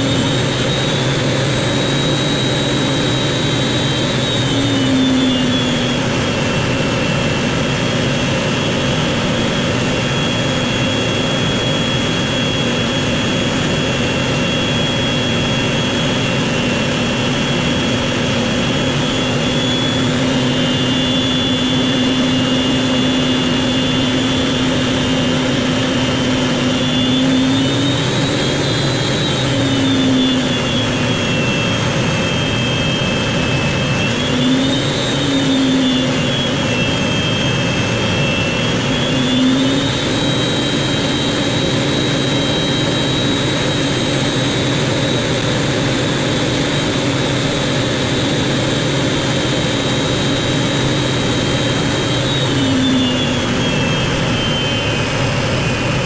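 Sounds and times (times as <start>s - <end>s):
jet engine whine: 0.0s - 56.0s.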